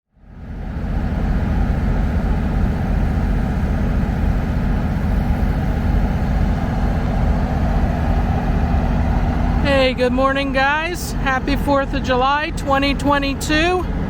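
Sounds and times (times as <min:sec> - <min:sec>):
diesel locomotive engines idling: 0:00.2 - 0:14.0.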